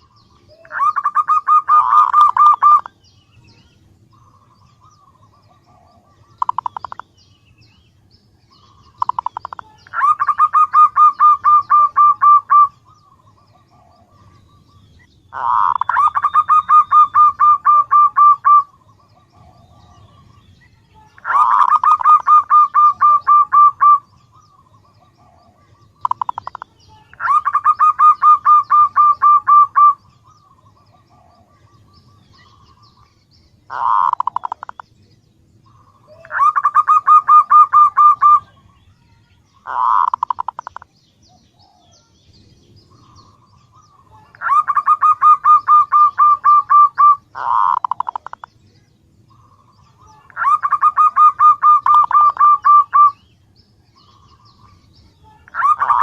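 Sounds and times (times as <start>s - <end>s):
dove cooing: 0.0s - 3.0s, 4.1s - 7.1s, 8.6s - 20.3s, 21.0s - 33.0s, 33.7s - 34.9s, 35.6s - 38.8s, 39.6s - 40.9s, 42.8s - 48.5s, 49.3s - 53.2s, 54.0s - 56.0s.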